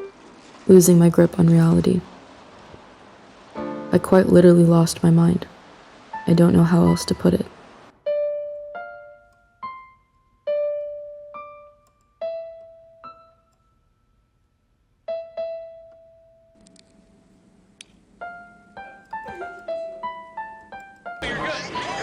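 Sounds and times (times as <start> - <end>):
piano notes: 0.0 - 14.2, 15.0 - 22.0
faint background hiss: 0.0 - 21.2.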